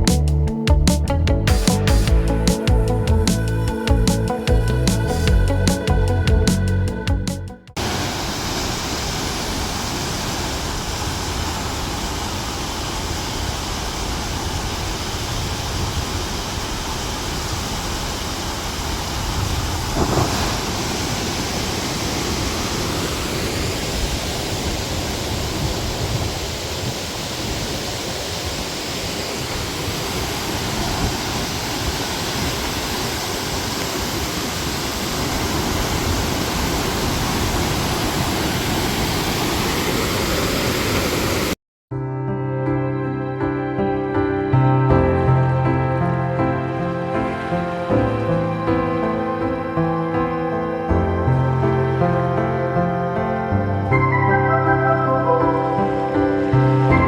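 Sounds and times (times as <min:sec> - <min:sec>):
waterfall and river rushing: 0:07.7 - 0:41.6, 0:45.1 - 0:57.0.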